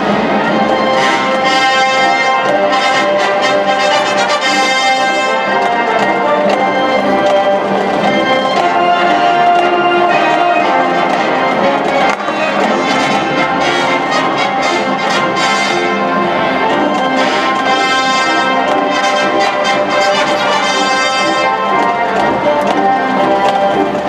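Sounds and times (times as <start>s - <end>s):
marching band playing: 0.0s - 24.0s
trumpets and trombones: 0.0s - 24.0s.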